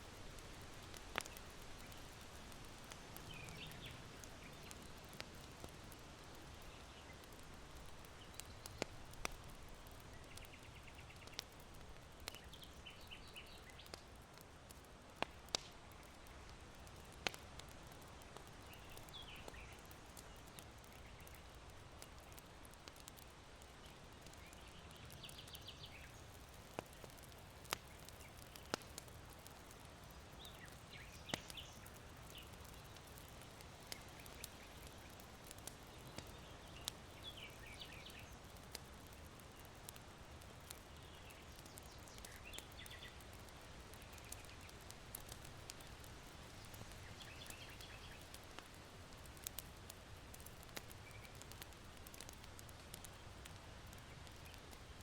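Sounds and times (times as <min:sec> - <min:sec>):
charcoal crackling and popping: 0:00.0 - 0:55.0
small birds chirping: 0:00.4 - 0:14.5, 0:15.2 - 0:54.9.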